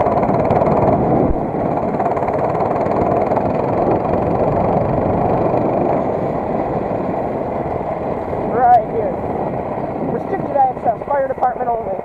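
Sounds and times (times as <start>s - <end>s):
minibike engine running: 0.0s - 12.0s.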